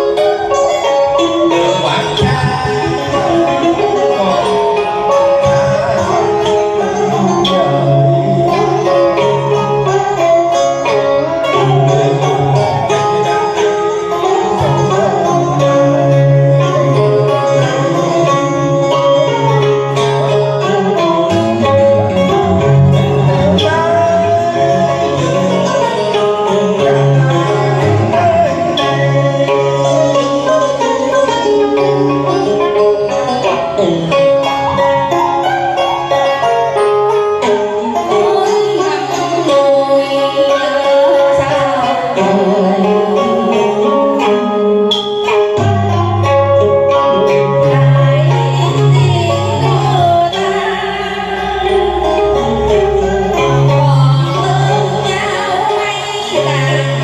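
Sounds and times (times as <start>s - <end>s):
steady bass line: 0.0s - 39.4s, 41.3s - 57.0s
plucked string melody: 0.0s - 57.0s.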